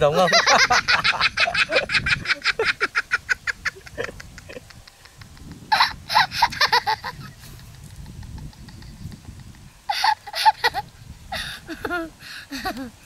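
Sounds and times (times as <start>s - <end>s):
child laughing: 0.2s - 9.3s, 9.9s - 13.0s.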